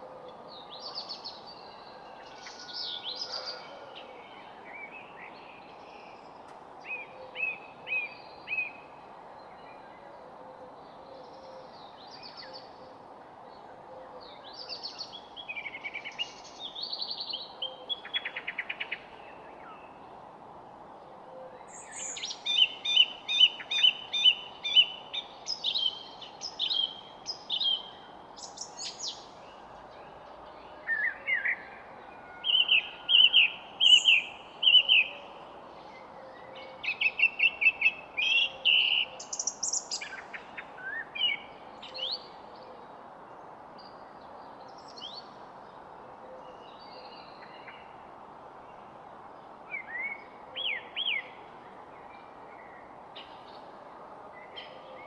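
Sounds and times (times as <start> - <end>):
songbirds chirping: 0.0 - 55.0
steady low hiss: 4.3 - 30.7, 31.6 - 54.8.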